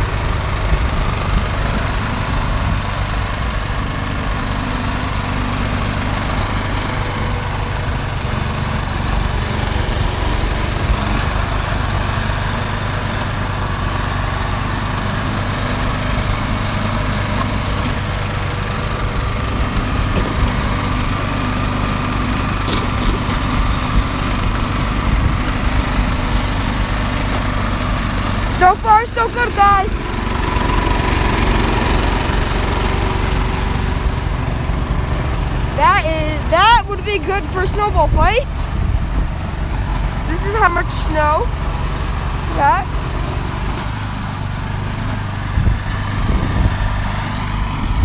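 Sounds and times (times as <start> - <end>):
snowblower engine running: 0.0 - 48.0.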